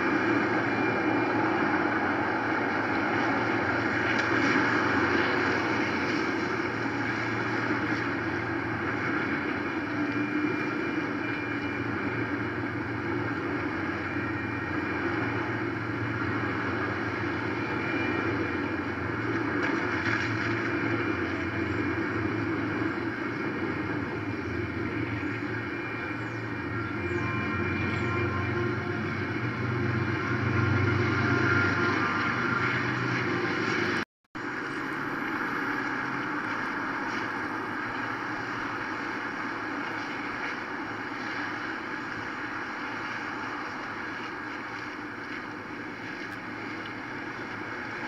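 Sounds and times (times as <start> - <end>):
freight train rolling past: 0.0 - 48.0.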